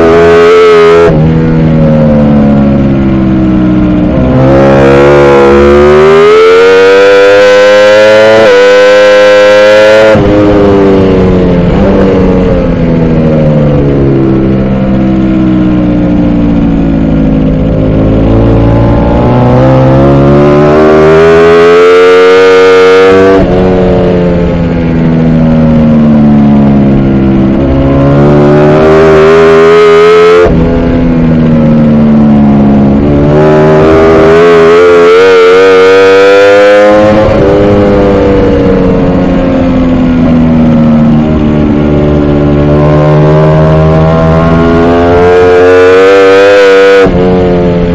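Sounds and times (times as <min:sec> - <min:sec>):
motorcycle engine revving: 0:00.0 - 0:47.9
wind noise: 0:00.0 - 0:47.9.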